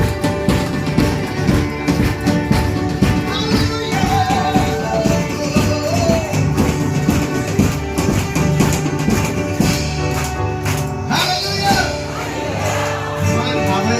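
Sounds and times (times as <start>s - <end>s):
drums: 0.0s - 13.9s
worship music: 0.0s - 13.9s.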